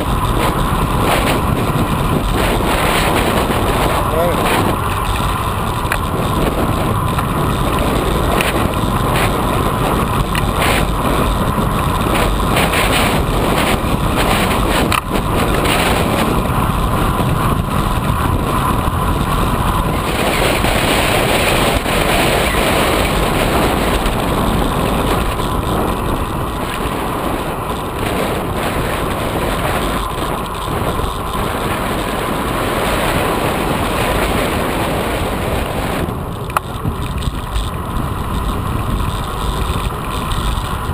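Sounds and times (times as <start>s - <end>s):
bike tyres humming on asphalt: 0.0s - 40.9s
wind rushing over microphone: 0.0s - 40.9s.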